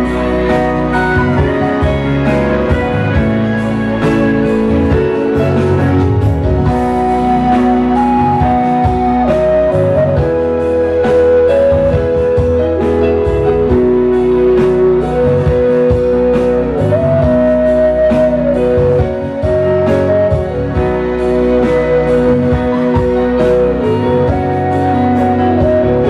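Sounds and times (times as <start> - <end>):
electronic keyboard melody: 0.0 - 26.0
steady drum beat: 0.0 - 26.0.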